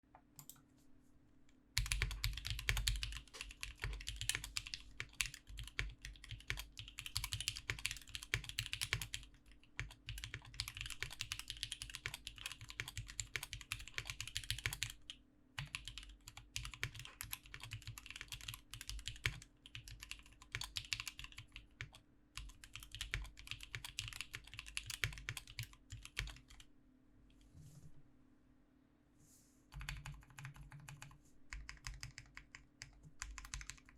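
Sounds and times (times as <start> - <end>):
faint steady hum: 0.0 - 33.9
mechanical keyboard typing: 1.8 - 26.6, 29.7 - 33.9.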